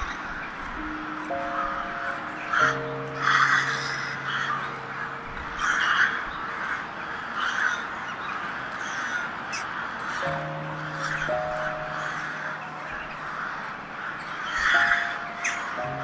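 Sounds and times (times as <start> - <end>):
crows cawing: 0.0 - 16.0.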